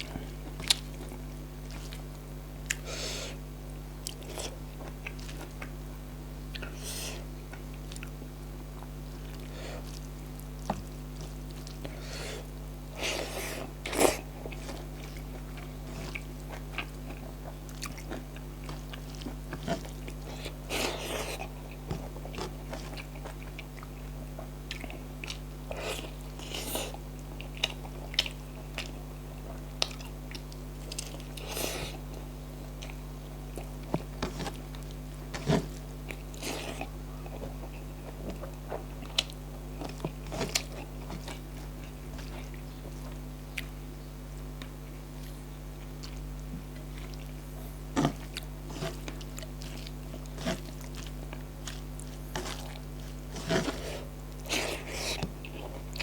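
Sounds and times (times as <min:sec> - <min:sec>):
person chewing with wet mouth sounds: 0:00.0 - 0:03.4, 0:04.0 - 0:05.8, 0:06.5 - 0:56.0
faint low hum: 0:00.0 - 0:56.0.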